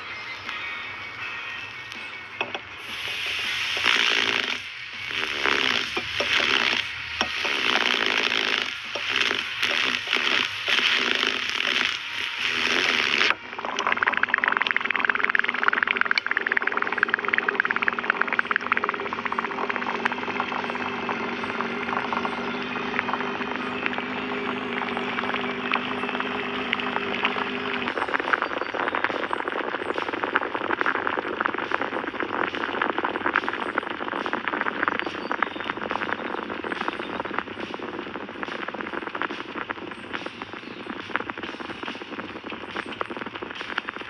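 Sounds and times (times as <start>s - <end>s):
liquid fizzing in glass: 2.4s - 44.0s.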